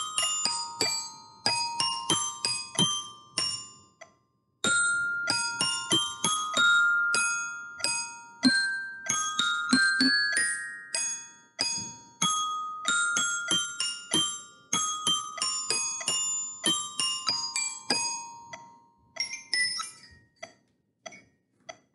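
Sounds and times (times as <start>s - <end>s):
glockenspiel melody: 0.0s - 21.3s.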